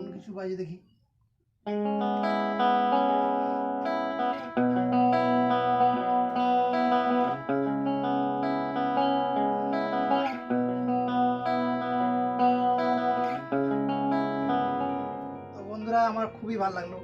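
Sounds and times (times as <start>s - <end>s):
amplified guitar chords: 1.7s - 17.0s.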